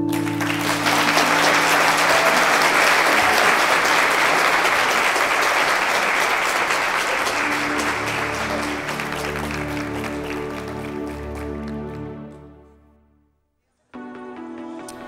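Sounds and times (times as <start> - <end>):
crowd applauding: 0.0 - 12.7.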